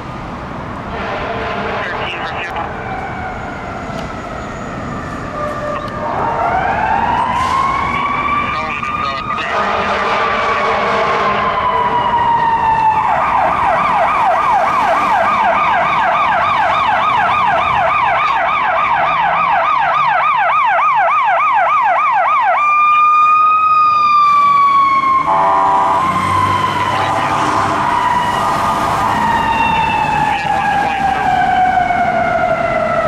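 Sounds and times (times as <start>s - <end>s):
fire engine siren: 0.0s - 33.0s.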